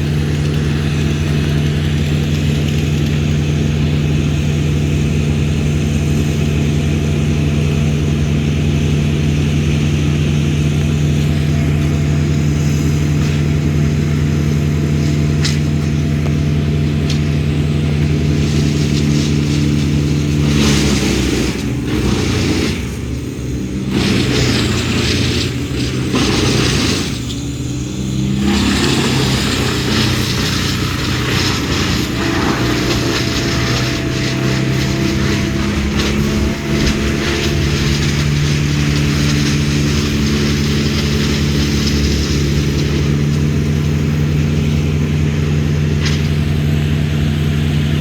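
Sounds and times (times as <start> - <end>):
engine running: 0.0 - 48.0.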